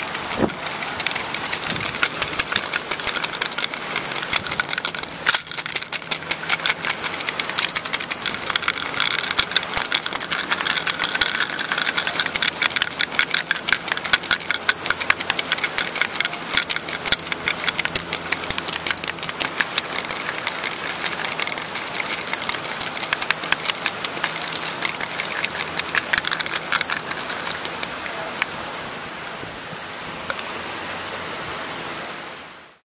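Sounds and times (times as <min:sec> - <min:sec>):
plastic pieces rattling in jar: 0:00.0 - 0:28.4.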